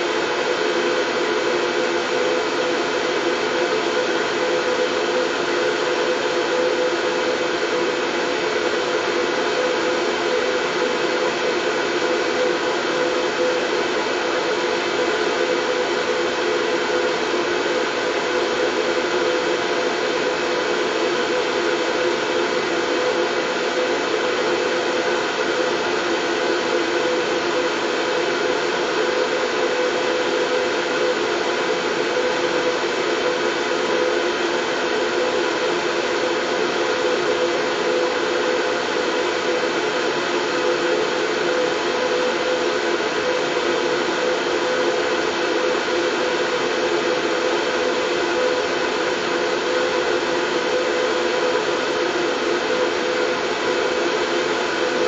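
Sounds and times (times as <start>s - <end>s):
steady white noise: 0.0s - 55.0s.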